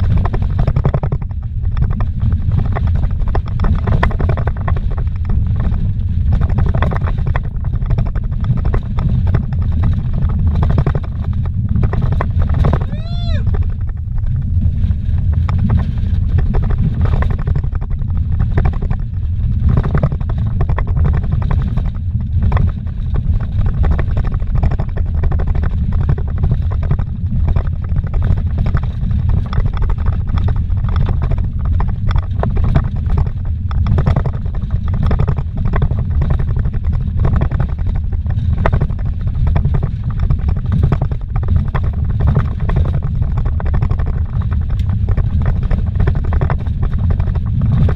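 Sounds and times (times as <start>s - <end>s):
gravel knocks and rattles: 0.0s - 47.9s
vehicle road and engine rumble: 0.0s - 47.9s.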